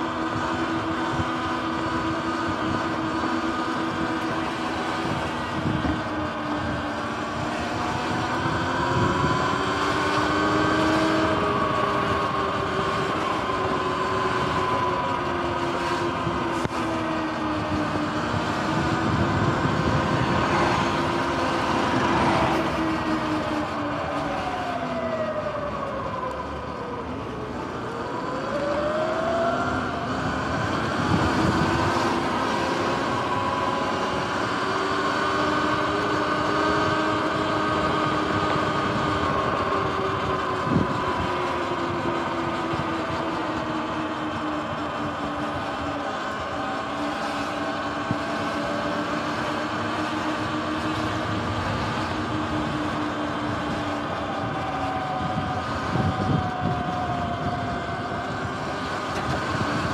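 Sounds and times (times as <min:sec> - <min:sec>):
electric motor whine: 0:00.0 - 0:59.9
wind noise: 0:00.0 - 0:59.9.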